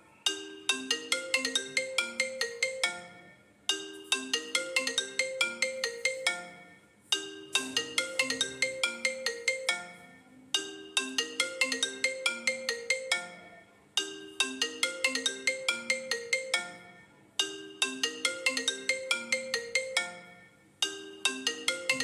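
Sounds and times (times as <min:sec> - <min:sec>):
phone ringtone melody: 0:00.0 - 0:22.0.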